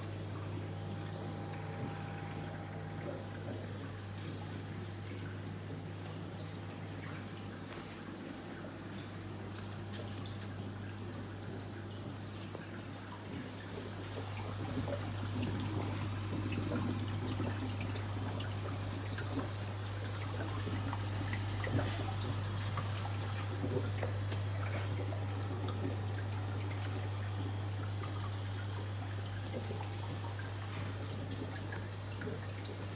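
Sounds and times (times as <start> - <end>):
pump humming: 0.0 - 32.9
water pouring and trickling: 0.0 - 32.9.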